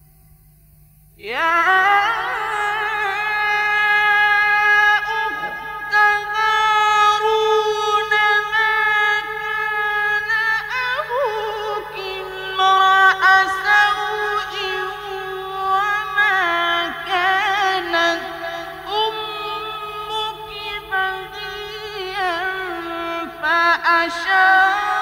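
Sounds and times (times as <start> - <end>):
man reciting melodically: 1.2 - 25.0.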